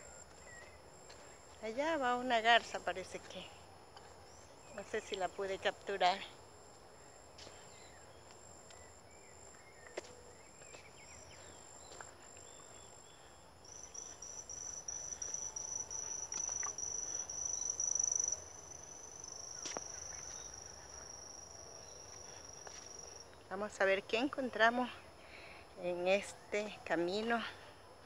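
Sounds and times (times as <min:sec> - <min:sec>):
insects trilling: 0:00.0 - 0:27.4.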